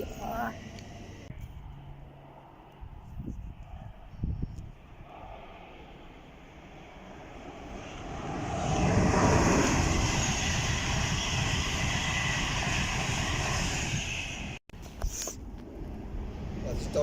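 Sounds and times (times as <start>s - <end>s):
train passing at speed: 0.0s - 2.7s, 4.8s - 14.6s, 15.7s - 17.0s.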